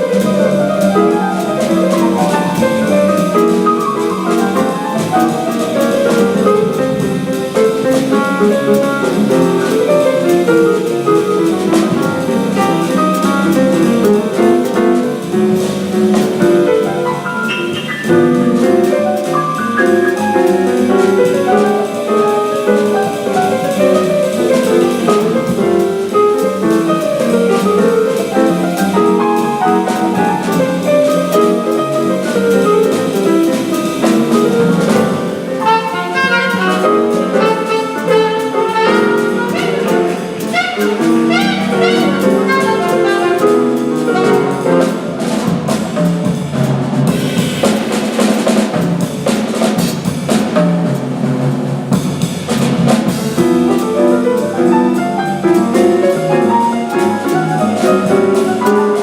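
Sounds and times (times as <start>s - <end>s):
cymbals: 0.0s - 59.0s
jazz group playing live: 0.0s - 59.0s
piano: 0.0s - 59.0s.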